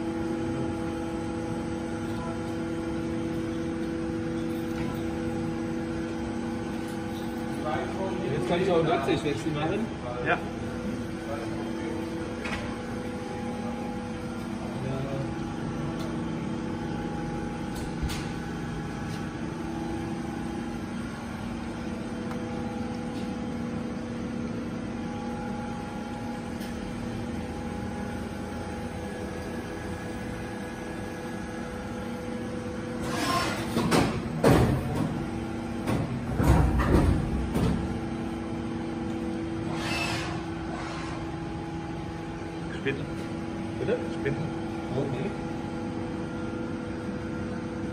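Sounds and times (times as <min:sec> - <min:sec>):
milling machine humming: 0:00.0 - 0:47.9.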